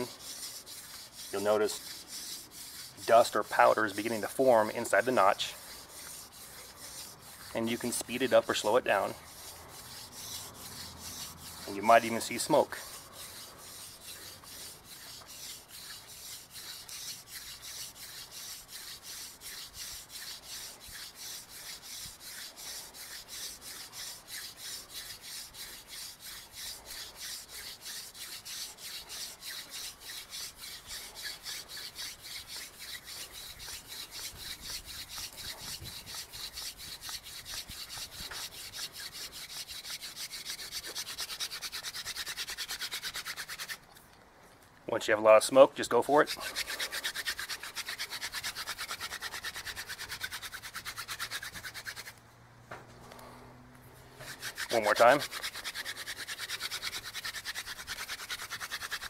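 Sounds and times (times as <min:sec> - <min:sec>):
wooden spindle rasping in fireboard: 0:00.0 - 0:43.9, 0:45.8 - 0:52.2, 0:54.1 - 0:59.0.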